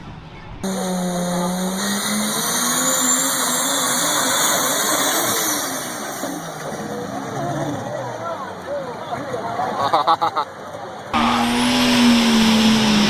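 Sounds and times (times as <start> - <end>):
tractor engine at high revs: 0.6 - 9.5, 11.2 - 13.0.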